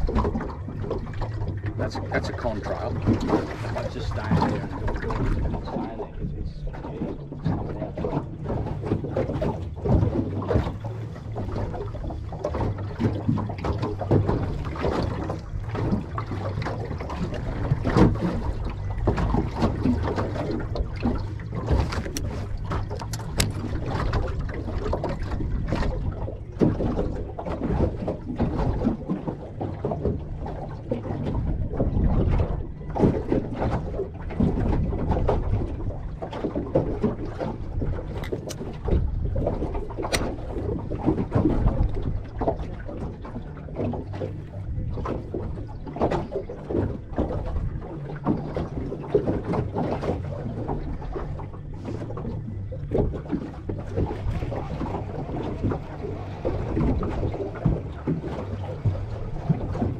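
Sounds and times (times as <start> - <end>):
water slapping against boat hull: 0.0 - 59.9
wind buffeting microphone: 0.0 - 59.9.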